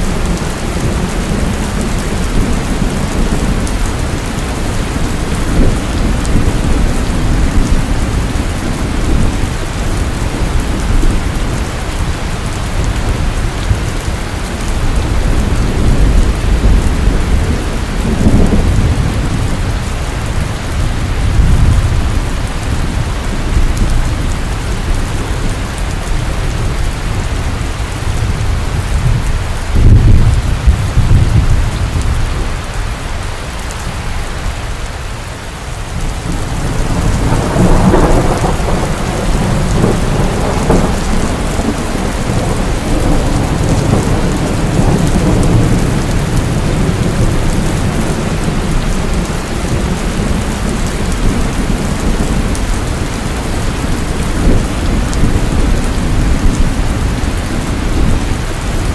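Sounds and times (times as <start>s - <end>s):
thunder rumbling: 0.0s - 34.7s, 35.5s - 58.9s
heavy rain falling: 0.0s - 58.9s.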